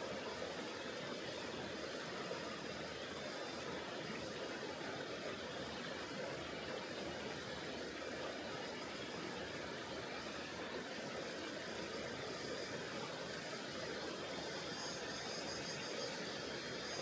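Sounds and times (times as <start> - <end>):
mountain river rushing: 0.0 - 17.0.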